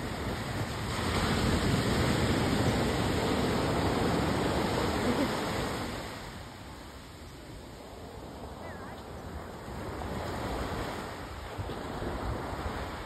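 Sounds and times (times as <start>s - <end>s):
waves breaking on sand: 0.0s - 13.0s.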